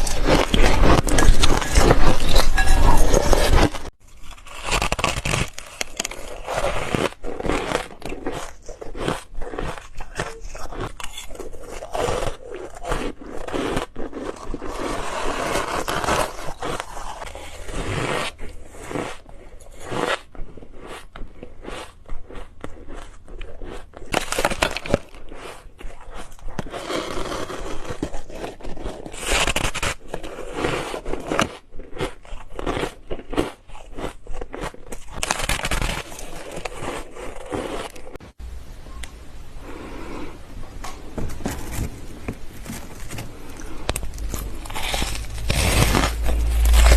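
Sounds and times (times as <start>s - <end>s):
ice being bitten and crunched: 0.0s - 38.2s, 41.4s - 46.9s.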